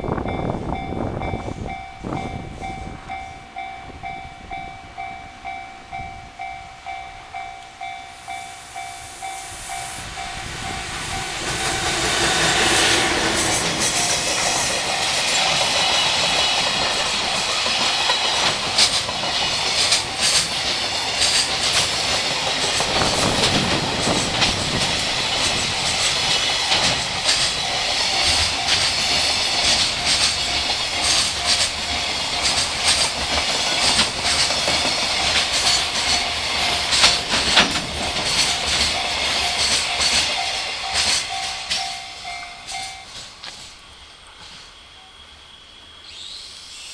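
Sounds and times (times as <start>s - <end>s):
crossing warning bell ringing: 0.0s - 43.5s
freight train wheels clicking: 1.1s - 44.6s.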